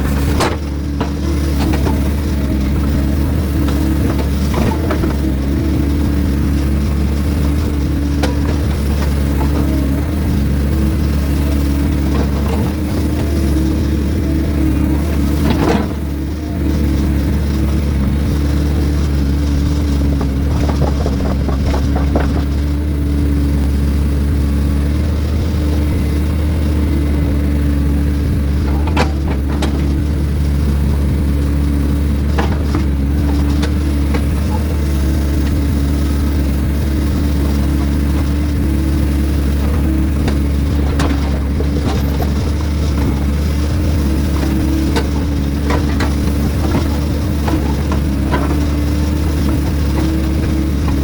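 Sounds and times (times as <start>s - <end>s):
knocks and clunks: 0.0s - 22.9s, 28.4s - 51.0s
heavy diesel engine running: 0.0s - 51.0s.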